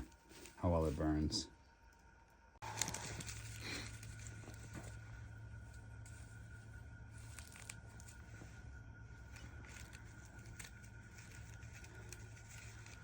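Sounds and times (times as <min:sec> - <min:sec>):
bark and moss crackling: 0:00.0 - 0:13.0
steady low hum: 0:00.0 - 0:13.0.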